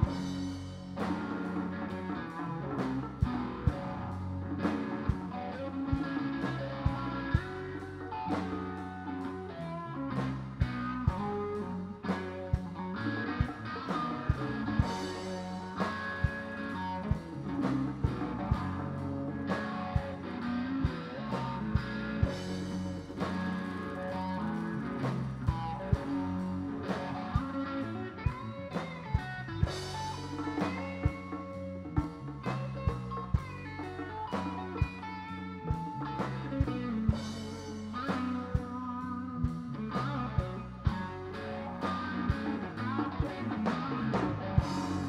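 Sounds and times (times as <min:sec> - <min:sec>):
drum kit: 0:00.0 - 0:45.0
electric bass: 0:00.0 - 0:45.0
electric guitar: 0:00.0 - 0:45.0.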